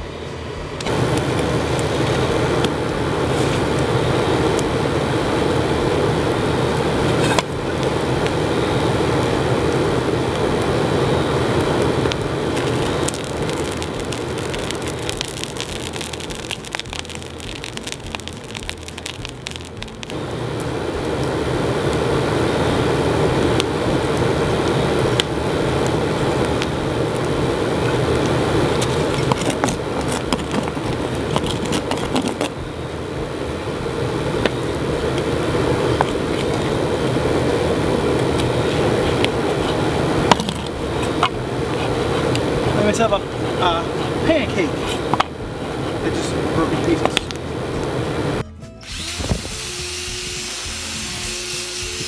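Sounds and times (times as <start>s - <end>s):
furnace blower rushing: 0.0s - 17.6s, 20.1s - 52.0s
burning wood crackling: 0.0s - 48.4s.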